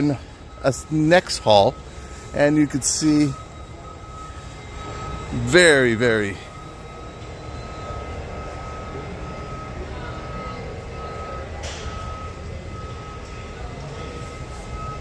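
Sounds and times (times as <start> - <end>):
low rumble of large hall: 0.0 - 15.0
reversing alarm beeping: 0.0 - 15.0.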